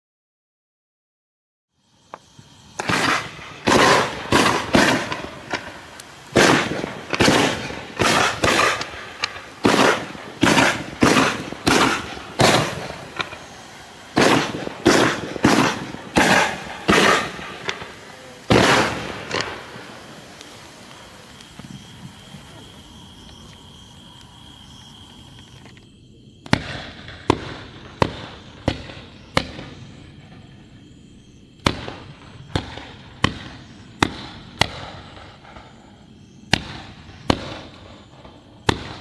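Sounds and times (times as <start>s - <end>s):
fireworks battery bangs: 2.0s - 25.8s, 26.4s - 29.9s, 31.6s - 35.9s, 36.5s - 39.0s.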